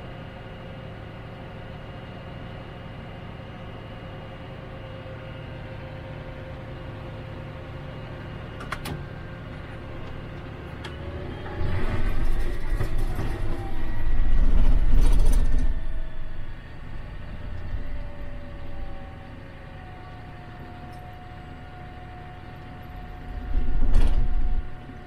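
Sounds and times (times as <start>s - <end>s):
faint steady whine: 0.0s - 25.0s.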